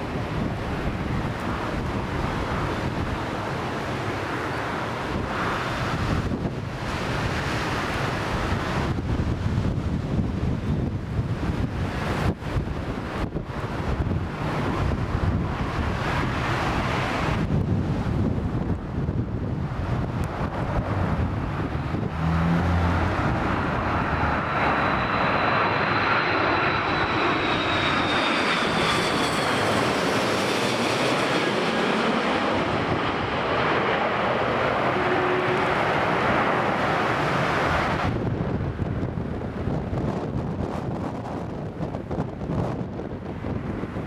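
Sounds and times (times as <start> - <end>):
jet airliner roaring past: 0.0 - 44.0
wind on microphone: 0.0 - 44.0.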